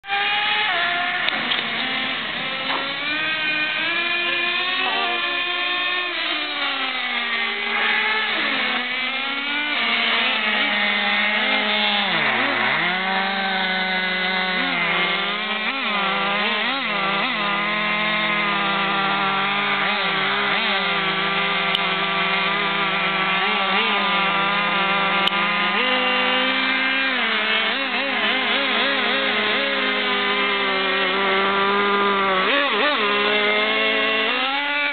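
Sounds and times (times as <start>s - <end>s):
small model car engines revving: 0.0s - 34.9s.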